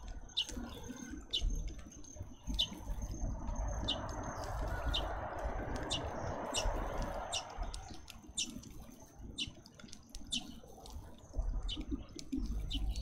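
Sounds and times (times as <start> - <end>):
rushing background noise: 0.0 - 13.0
small birds chirping: 0.0 - 13.0.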